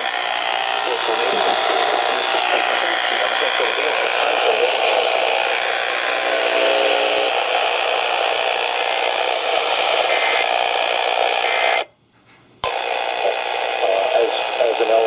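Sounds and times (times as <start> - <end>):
radio static hiss: 0.0 - 11.9, 12.6 - 15.0
faint steady tones: 0.0 - 15.0.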